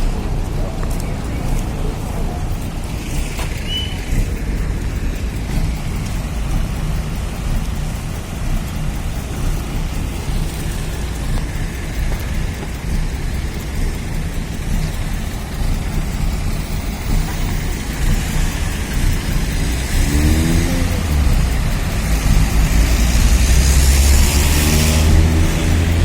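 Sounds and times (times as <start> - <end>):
cars passing and accelerating: 0.0 - 26.0
vehicle rushing by: 0.0 - 26.0.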